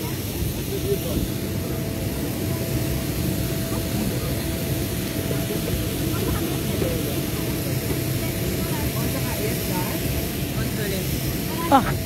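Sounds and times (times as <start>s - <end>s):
aircraft engine rumble: 0.0s - 12.0s
aircraft engine whine: 0.0s - 12.0s.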